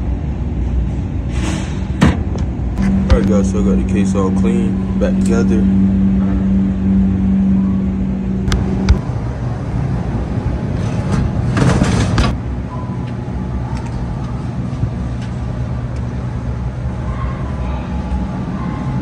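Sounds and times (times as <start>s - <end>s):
fan electric hum: 0.0s - 19.0s
low machinery rumble: 0.0s - 19.0s.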